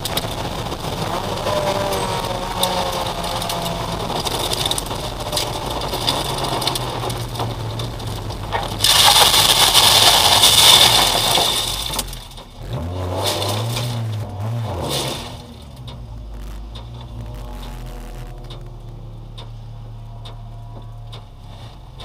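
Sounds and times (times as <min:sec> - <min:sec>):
gravel hitting car underside: 0:00.0 - 0:17.8
race car engine: 0:00.0 - 0:22.0.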